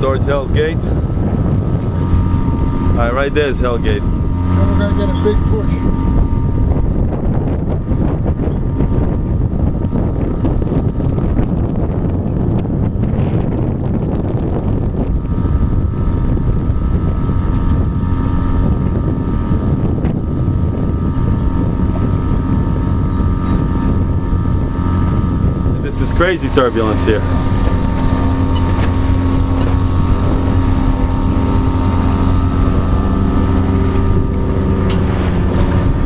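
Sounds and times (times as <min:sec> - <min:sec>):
outboard motor running: 0:00.0 - 0:36.0
water rushing past hull: 0:00.0 - 0:36.0
wind buffeting microphone: 0:00.0 - 0:36.0.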